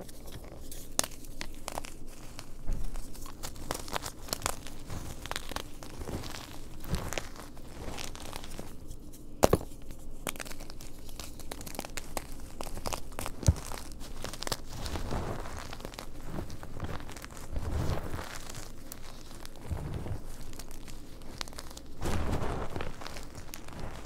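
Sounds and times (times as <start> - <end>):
chalk crunching by hand: 0.0 - 24.0.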